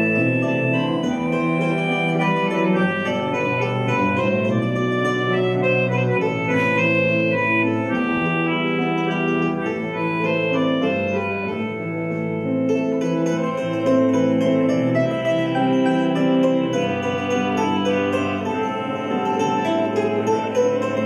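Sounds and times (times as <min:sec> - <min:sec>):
bowed cello: 0:00.0 - 0:21.0
concertina: 0:00.0 - 0:21.0
mandolin: 0:00.0 - 0:21.0
organ-like chords: 0:00.0 - 0:21.0.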